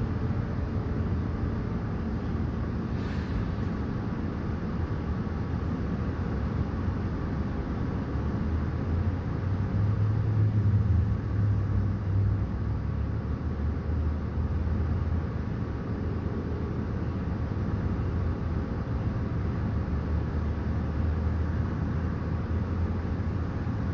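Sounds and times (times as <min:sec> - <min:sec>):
bus engine idling: 0:00.0 - 0:23.9.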